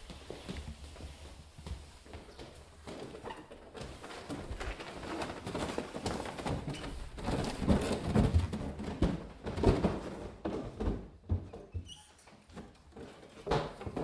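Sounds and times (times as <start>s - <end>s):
shuffling footsteps on wooden stairs: 0.0s - 14.0s.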